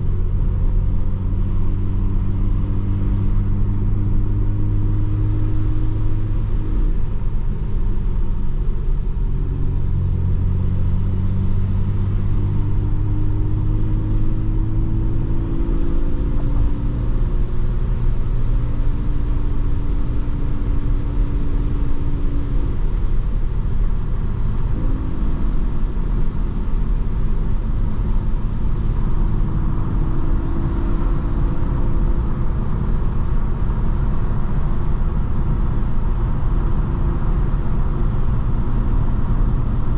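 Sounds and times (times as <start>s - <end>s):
car engine and exhaust cruising: 0.0s - 39.9s
road rumble: 0.0s - 39.9s.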